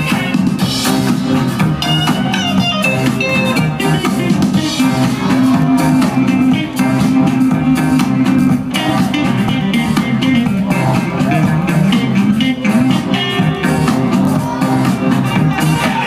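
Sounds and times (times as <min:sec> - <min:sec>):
loud dance music: 0:00.0 - 0:16.0.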